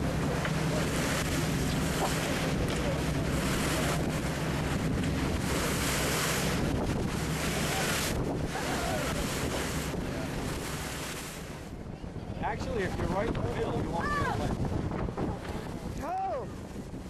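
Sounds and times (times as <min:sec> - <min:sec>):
boat engine humming: 0:00.0 - 0:17.0
water rushing along hull: 0:00.0 - 0:17.0
wind on microphone: 0:00.0 - 0:17.0.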